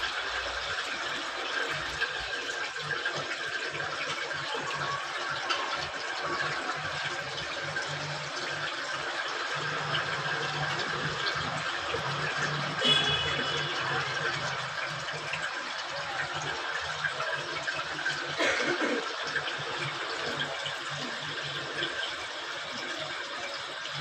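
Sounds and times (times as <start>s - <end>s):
washing machine filling with water: 0.0s - 24.0s.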